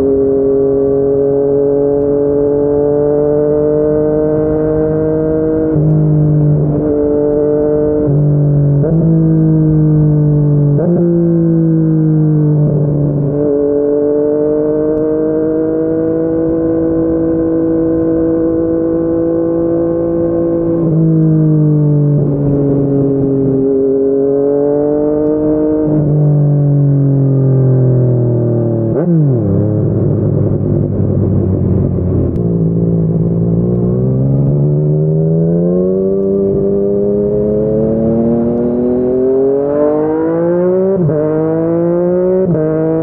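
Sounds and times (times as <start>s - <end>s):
motorcycle engine cruising: 0.0s - 43.0s.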